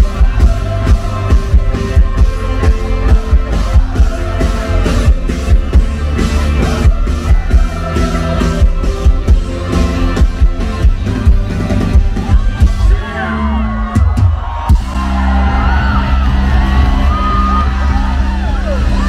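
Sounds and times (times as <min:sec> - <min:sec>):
drums keeping steady beat: 0:00.0 - 0:13.2, 0:13.8 - 0:19.0
live rock band playing: 0:00.0 - 0:19.0.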